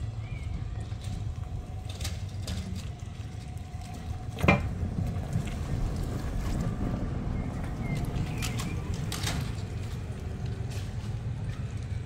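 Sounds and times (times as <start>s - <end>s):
trolleybus rumbling past: 0.0s - 12.0s.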